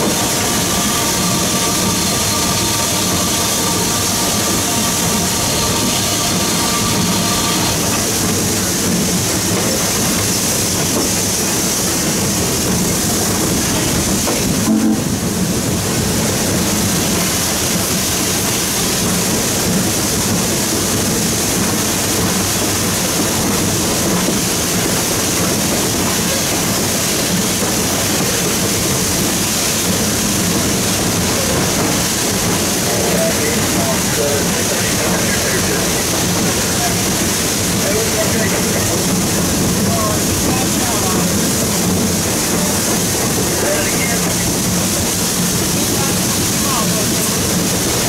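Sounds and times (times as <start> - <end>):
steam locomotive running: 0.0 - 48.0.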